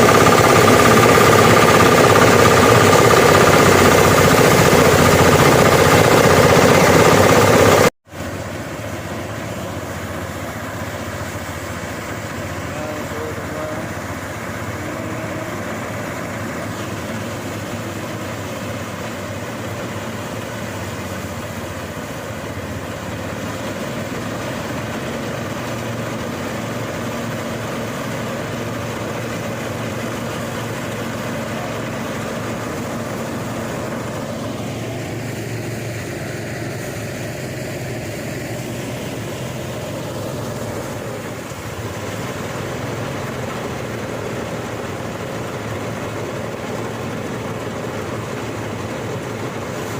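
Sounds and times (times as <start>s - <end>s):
threshing machine engine running: 0.0s - 49.9s.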